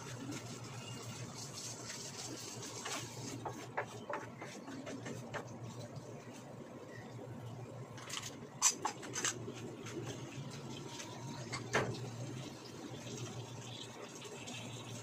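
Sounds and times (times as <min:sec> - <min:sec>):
food frying in a pan: 0:00.0 - 0:06.3, 0:08.9 - 0:15.0
low steady hum: 0:00.0 - 0:15.0.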